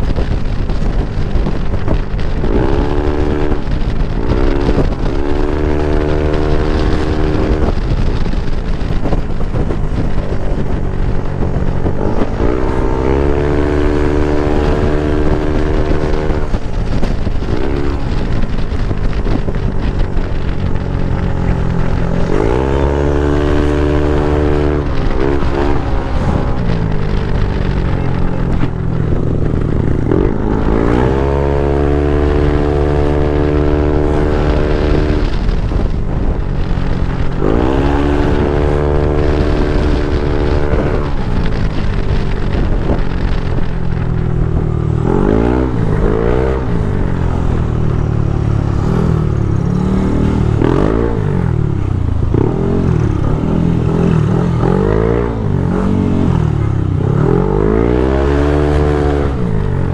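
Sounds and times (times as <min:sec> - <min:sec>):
scooter engine revving: 0:00.0 - 0:59.9.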